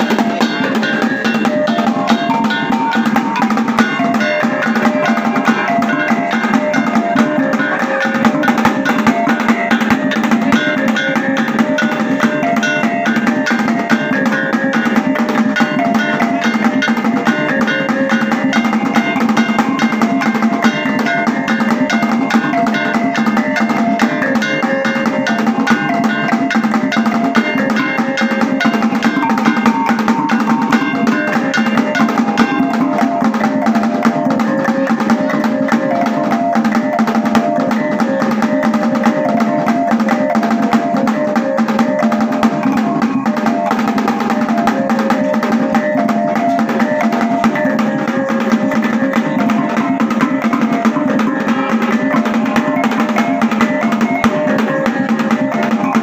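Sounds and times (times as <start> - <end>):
small gongs played in melodic runs: 0.0 - 56.0
sticks beating goblet drum: 0.0 - 56.0.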